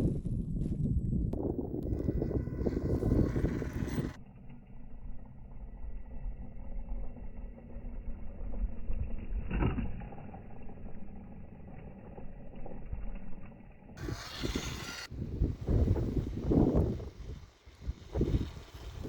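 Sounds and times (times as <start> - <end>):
rc truck motor rumble: 0.1 - 19.0.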